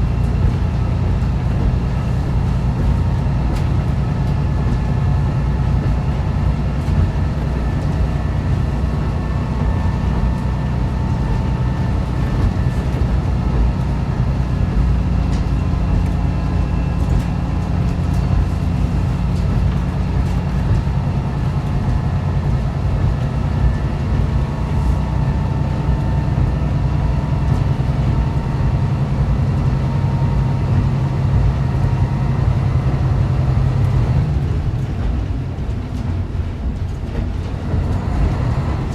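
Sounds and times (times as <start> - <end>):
diesel engine drone: 0.0 - 38.9
train wheel and rail noise: 0.0 - 38.9.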